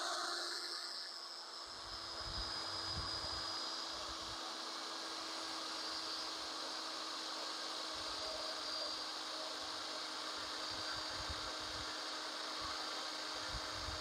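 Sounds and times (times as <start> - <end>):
hammer drill drilling steel: 0.0 - 14.0.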